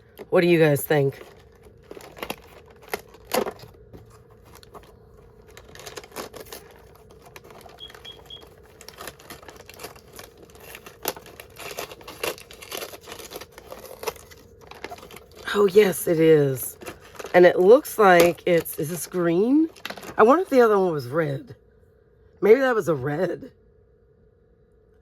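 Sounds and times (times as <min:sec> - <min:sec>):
paper packaging rustling: 0:00.0 - 0:20.5.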